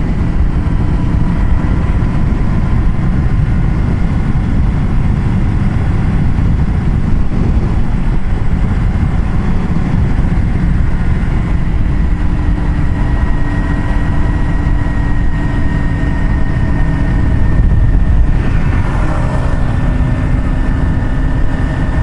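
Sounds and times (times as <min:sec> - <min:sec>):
engine drone: 0:00.0 - 0:22.0
road noise rush: 0:00.0 - 0:22.0.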